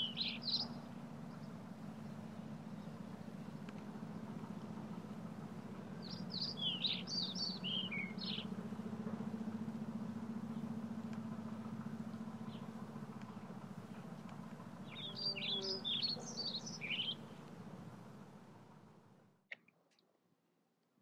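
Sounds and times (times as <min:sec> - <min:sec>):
songbird chirping: 0:00.0 - 0:19.0
steady low hum: 0:00.0 - 0:19.5.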